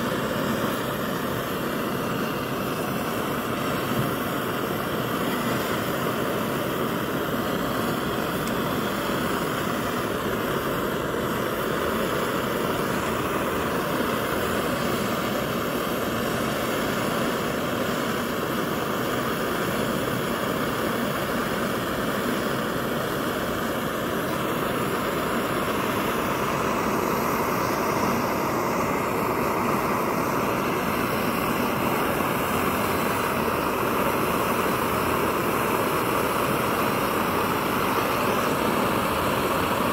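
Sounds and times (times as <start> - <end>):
pressure stove burner rushing: 0.0 - 39.9.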